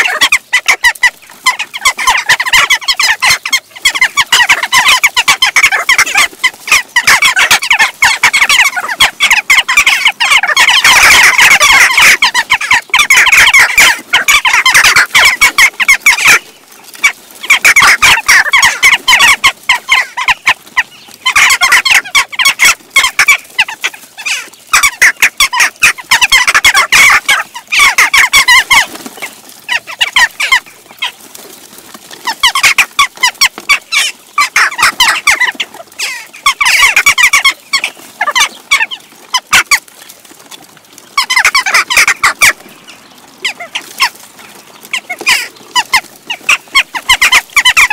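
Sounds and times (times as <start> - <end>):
jackdaws calling sharply: 0.0 - 31.1, 32.2 - 39.8, 41.2 - 47.9.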